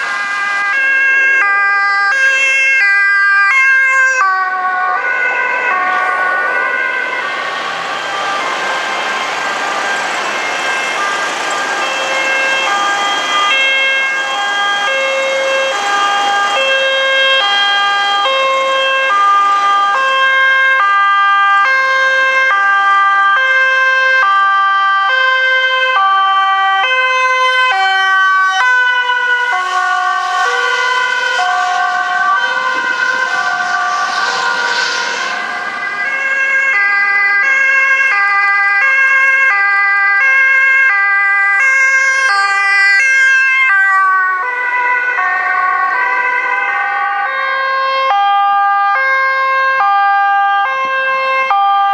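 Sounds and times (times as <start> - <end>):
two-tone ambulance sirens: 0.0 - 51.9.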